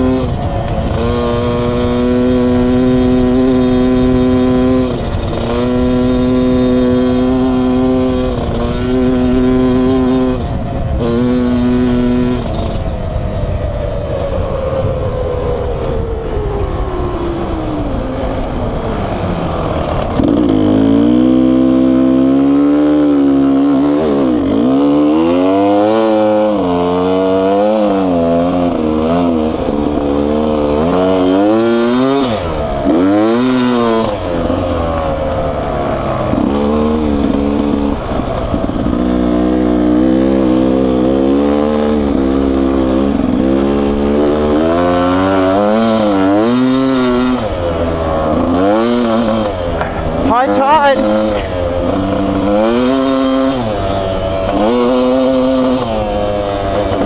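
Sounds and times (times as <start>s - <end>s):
two-stroke engine revving: 0.0s - 13.2s, 17.8s - 57.0s.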